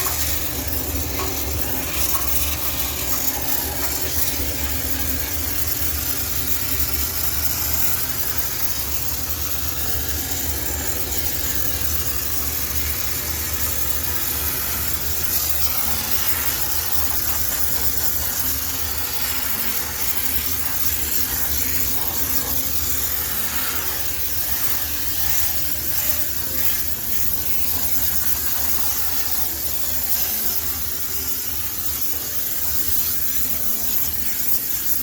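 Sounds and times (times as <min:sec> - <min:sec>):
steam cleaner hissing: 0:00.0 - 0:35.0.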